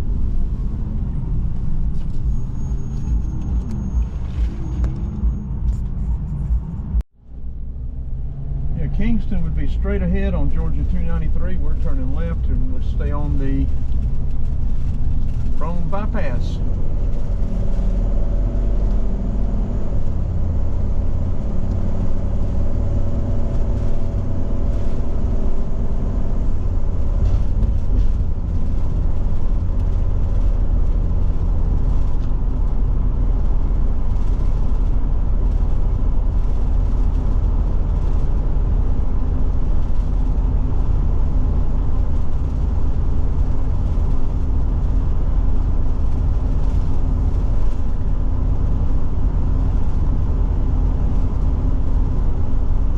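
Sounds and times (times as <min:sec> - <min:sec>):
engine and road rumble: 0:00.0 - 0:52.9
engine whine: 0:00.0 - 0:52.9.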